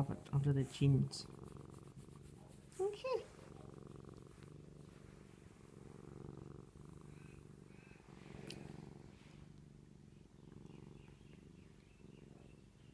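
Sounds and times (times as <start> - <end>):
cat purring: 0.0 - 12.9.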